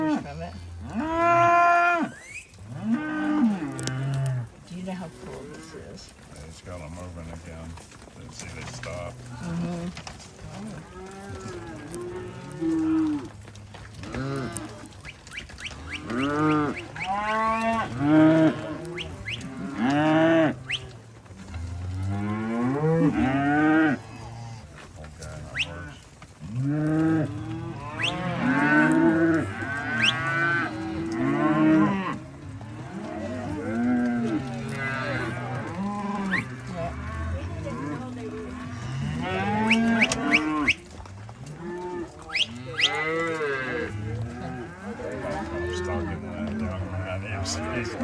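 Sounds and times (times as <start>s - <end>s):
cattle mooing: 0.0s - 6.0s, 8.6s - 48.0s.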